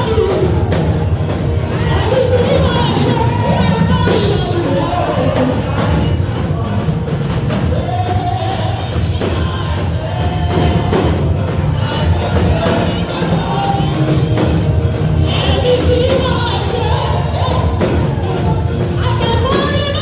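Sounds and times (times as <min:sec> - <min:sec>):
band with drums: 0:00.0 - 0:20.0
heavy bass: 0:00.0 - 0:20.0
people singing: 0:00.0 - 0:20.0.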